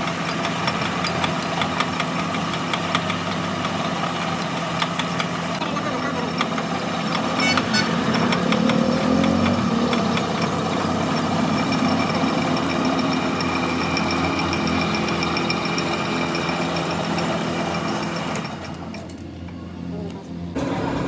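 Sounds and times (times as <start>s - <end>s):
workshop machine humming: 0.0s - 21.0s.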